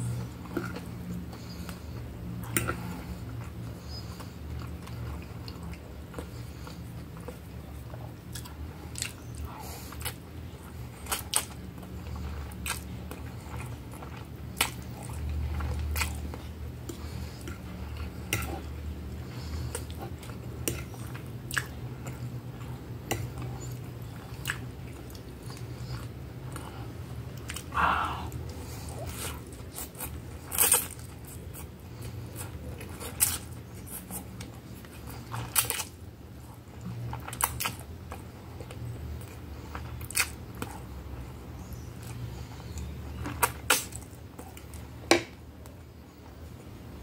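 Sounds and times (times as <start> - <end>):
steady low hum: 0.0 - 47.0
person chewing with mouth clicks: 0.1 - 40.9.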